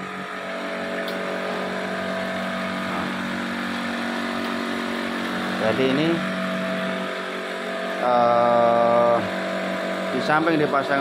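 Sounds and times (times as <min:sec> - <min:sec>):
water pump motor hum: 0:00.0 - 0:11.0.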